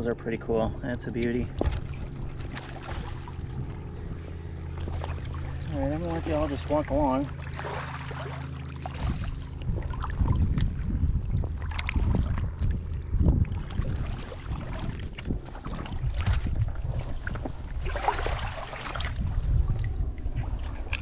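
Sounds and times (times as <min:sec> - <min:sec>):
small waves lapping: 0:01.3 - 0:21.0.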